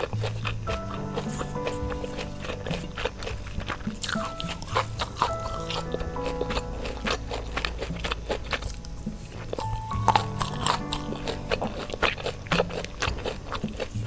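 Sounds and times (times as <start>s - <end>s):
background music with bass line: 0.0s - 14.0s
biting and chewing: 0.0s - 14.0s.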